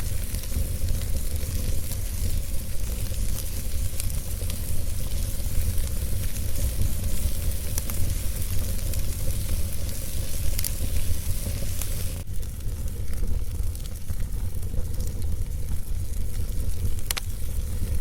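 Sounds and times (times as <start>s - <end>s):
fire crackling and popping: 0.0s - 18.0s
steady hiss: 0.0s - 18.0s.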